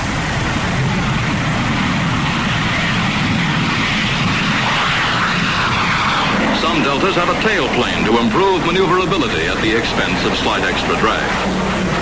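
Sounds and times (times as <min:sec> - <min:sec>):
jet aircraft engine rushing: 0:00.0 - 0:12.0.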